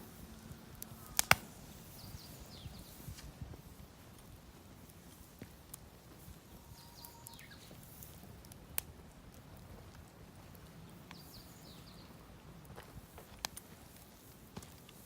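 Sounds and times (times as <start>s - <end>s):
campfire crackling: 0.0s - 15.0s
fire popping: 0.0s - 15.0s.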